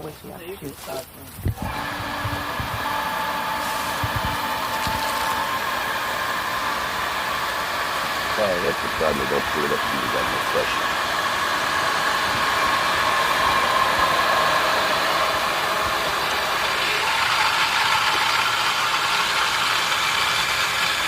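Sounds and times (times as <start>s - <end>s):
water pump motor whining: 0.9s - 21.0s.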